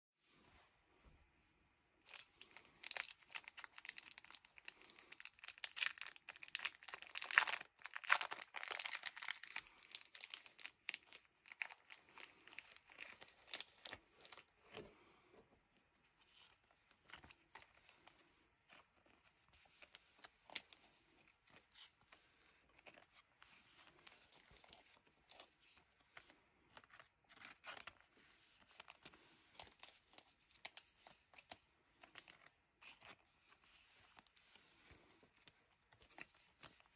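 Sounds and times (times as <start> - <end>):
plastic card sleeves crinkling: 2.0 - 15.0, 16.0 - 36.9.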